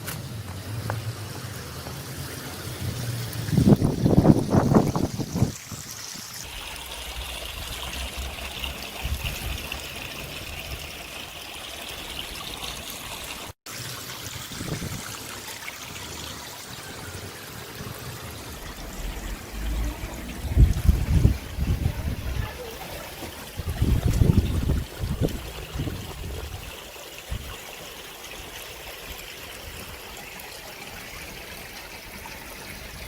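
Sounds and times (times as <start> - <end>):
water trickling: 1.5 - 33.0.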